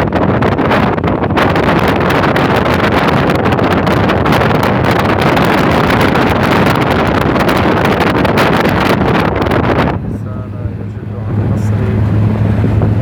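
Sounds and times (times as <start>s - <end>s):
road noise: 0.0s - 13.0s
vehicle engine: 0.0s - 13.0s
wind buffeting microphone: 0.0s - 13.0s.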